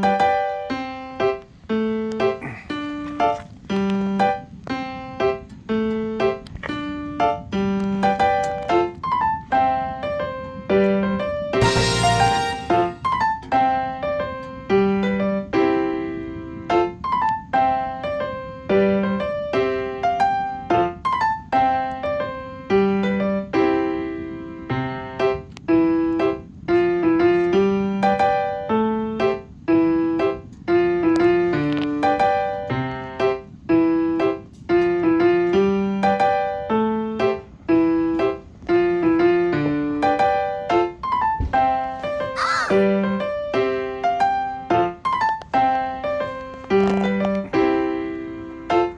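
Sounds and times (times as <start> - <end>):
piano music: 0.0 - 48.9.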